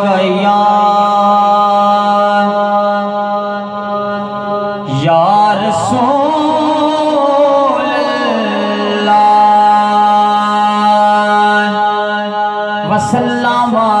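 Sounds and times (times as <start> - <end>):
man chanting through microphone: 0.0 - 14.0.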